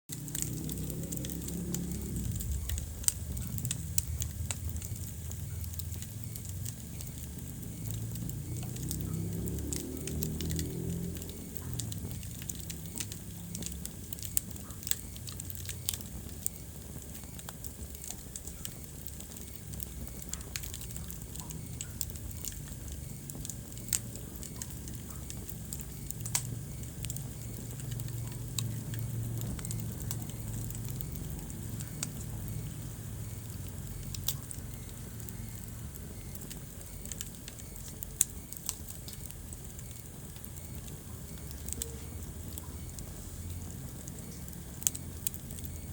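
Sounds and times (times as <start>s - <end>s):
low rumble of flames: 0.1s - 45.9s
wood fire crackling: 0.1s - 45.9s.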